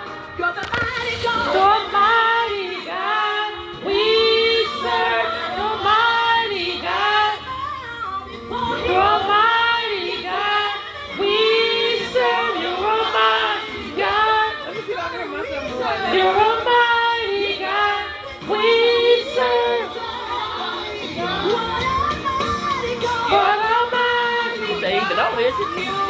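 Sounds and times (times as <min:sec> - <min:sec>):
woman singing through karaoke speaker: 0:00.0 - 0:26.0.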